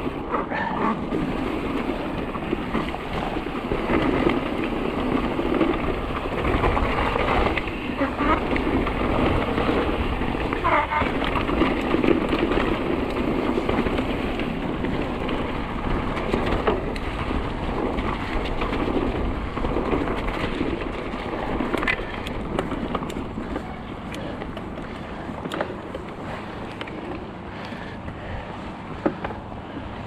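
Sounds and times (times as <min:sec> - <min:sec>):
bike tyres rushing and rattling: 0:00.0 - 0:30.0.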